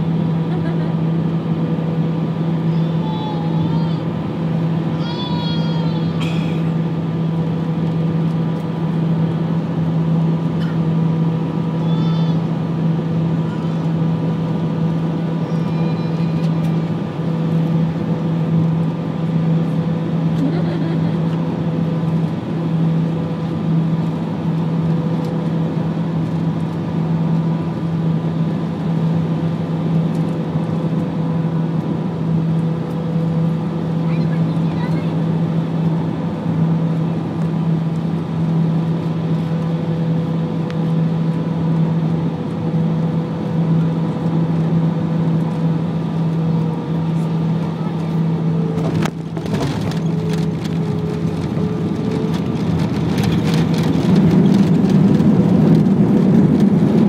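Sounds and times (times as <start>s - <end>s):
jet engine drone: 0.0s - 57.0s.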